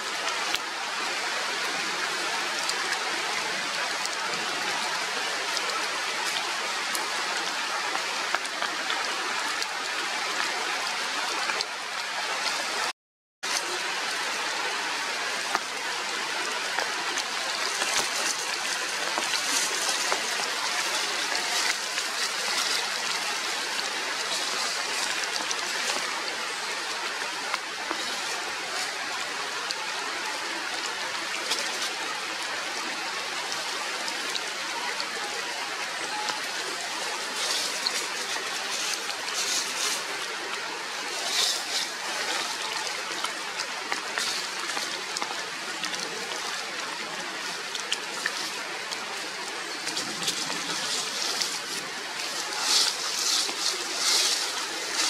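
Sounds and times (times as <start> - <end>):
rain falling through leaves: 0.0 - 55.0
sharp water drips: 0.0 - 55.0.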